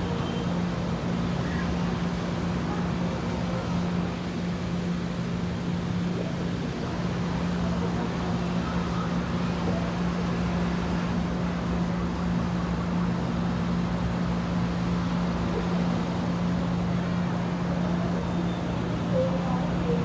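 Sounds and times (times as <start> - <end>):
steady engine hum: 0.0 - 20.0.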